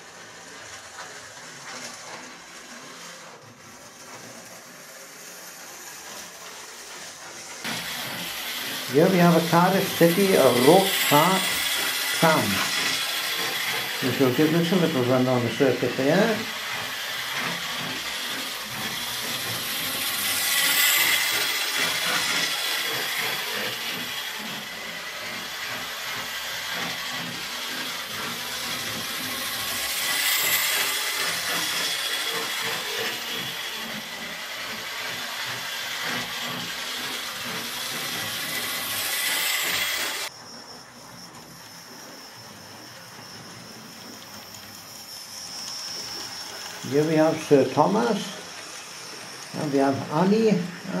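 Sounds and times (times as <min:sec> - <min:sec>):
model train motors whirring: 0:00.0 - 0:51.0
thin high whine: 0:07.2 - 0:35.4, 0:36.0 - 0:51.0.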